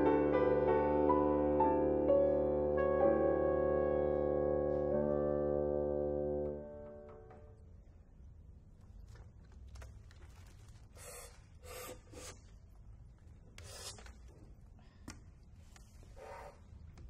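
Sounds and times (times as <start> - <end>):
low steady hall hum: 0.0 - 17.0.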